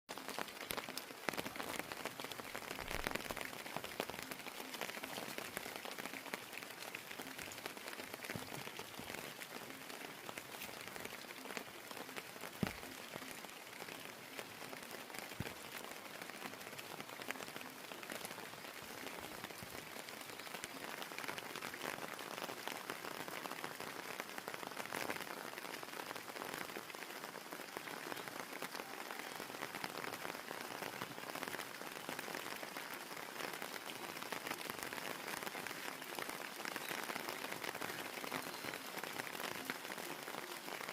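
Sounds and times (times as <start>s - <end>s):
raindrops ticking on hard surfaces: 0.1s - 40.9s
steady rain falling: 0.1s - 40.9s.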